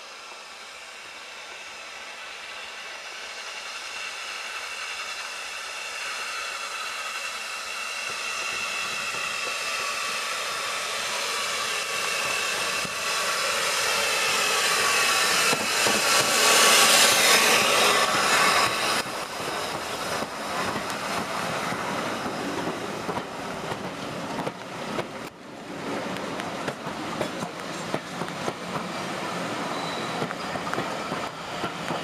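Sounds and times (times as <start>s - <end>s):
steam hiss with thin high tone: 0.0s - 32.0s
steam locomotives passing: 0.0s - 32.0s.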